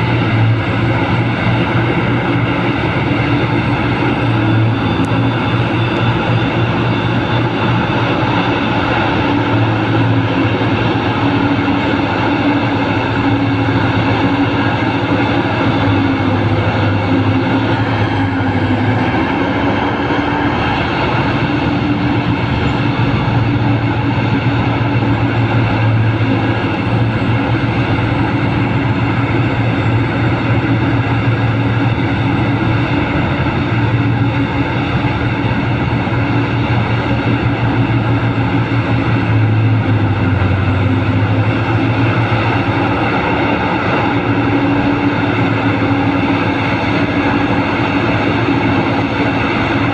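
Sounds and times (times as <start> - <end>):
excavator diesel engine drone: 0.0 - 49.9.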